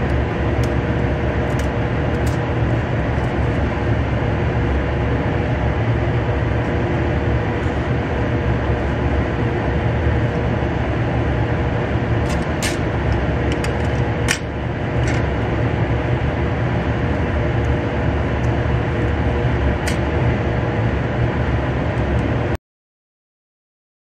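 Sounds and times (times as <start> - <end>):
ventilation fan rumble: 0.0 - 22.6.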